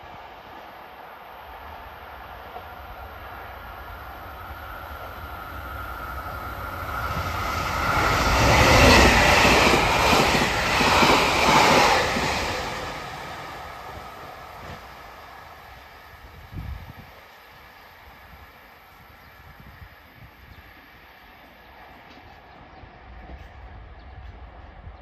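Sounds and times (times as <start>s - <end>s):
express train passing: 0.0s - 25.0s.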